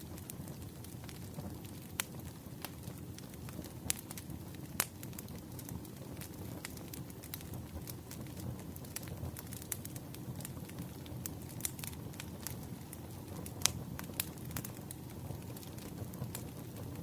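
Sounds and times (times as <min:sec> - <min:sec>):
fire pops and snaps: 0:00.0 - 0:17.0
low rush of burning: 0:00.0 - 0:17.0.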